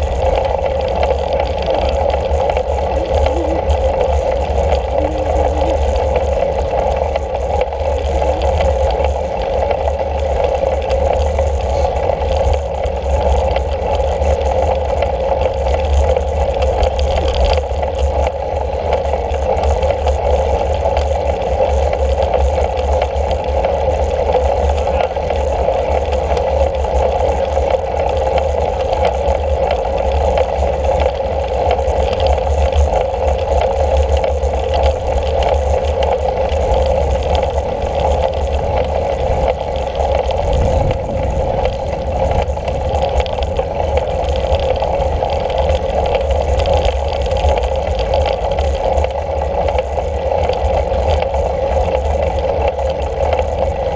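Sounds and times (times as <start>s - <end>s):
bicycle road rumble: 0.0s - 53.9s.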